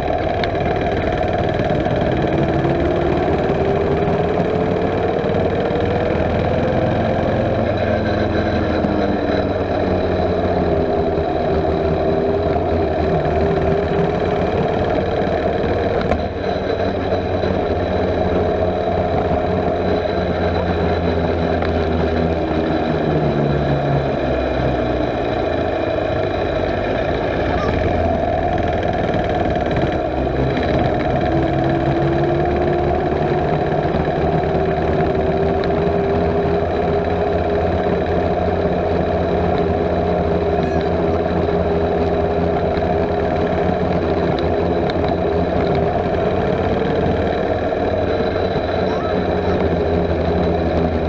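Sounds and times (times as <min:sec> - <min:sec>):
mini bike engine running: 0:00.0 - 0:51.0.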